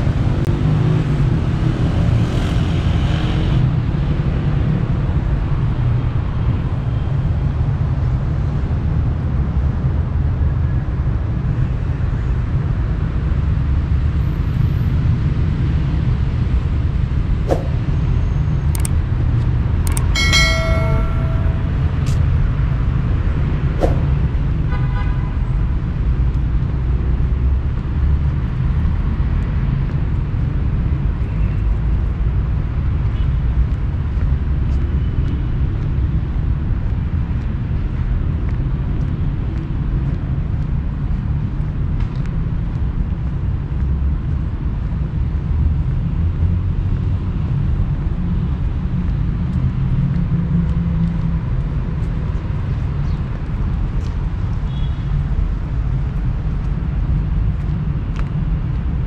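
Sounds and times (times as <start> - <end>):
city street traffic rumble: 0.0 - 59.0.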